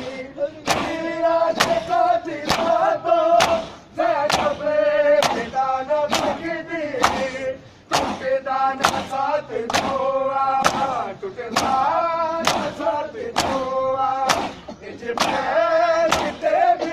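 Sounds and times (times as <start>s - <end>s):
men chanting: 0.0s - 16.9s
men slapping chests in unison: 0.0s - 16.9s.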